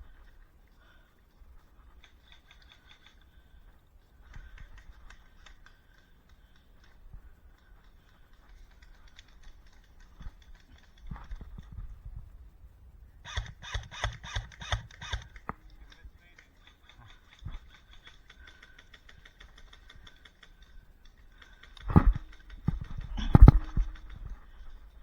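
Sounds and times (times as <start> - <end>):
constant low rumble: 0.0 - 25.0
faint clicks and rustling: 0.0 - 25.0.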